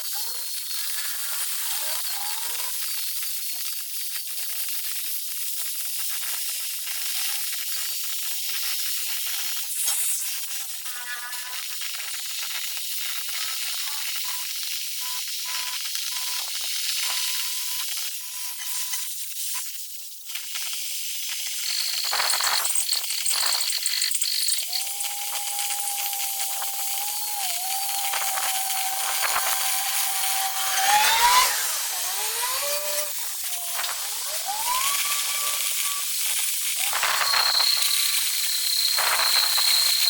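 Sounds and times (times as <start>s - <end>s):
arc welding crackling hiss: 0.0s - 40.0s.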